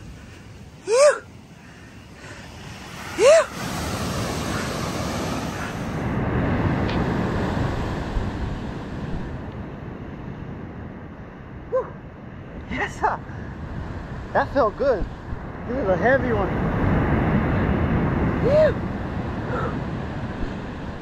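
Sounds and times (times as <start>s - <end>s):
surf breaking on beach: 0.0s - 10.0s, 12.7s - 21.0s
wind on microphone: 0.0s - 21.0s.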